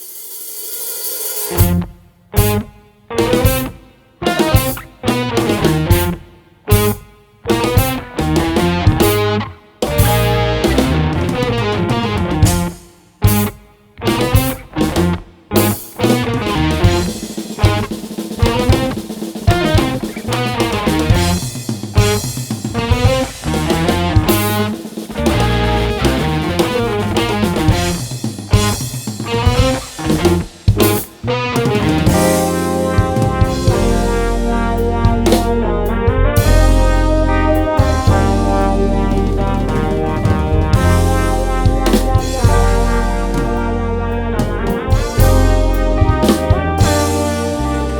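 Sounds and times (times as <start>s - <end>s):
drum kit: 0.0s - 47.9s
electric guitar: 1.4s - 47.9s
bass: 1.5s - 47.9s.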